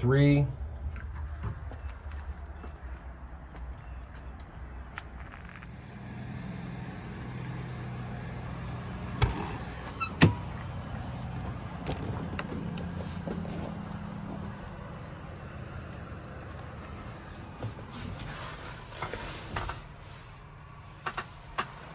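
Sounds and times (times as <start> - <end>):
vehicle engine idling: 0.0 - 21.9.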